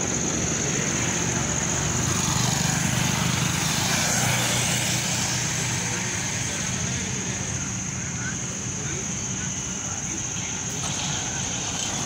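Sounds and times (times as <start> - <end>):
road traffic passing: 0.0 - 12.0
steady high-pitched whine: 0.0 - 12.0.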